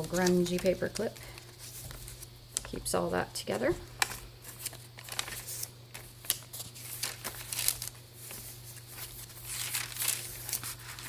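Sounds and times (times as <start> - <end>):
paper pages rustling and crinkling: 0.0 - 2.9, 4.0 - 11.0.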